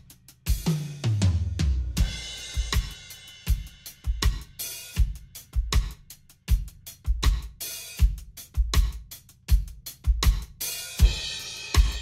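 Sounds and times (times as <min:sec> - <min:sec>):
busy hi-hat ticks: 0:00.0 - 0:00.7, 0:02.0 - 0:12.0
drum kit playing steady groove: 0:00.0 - 0:12.0.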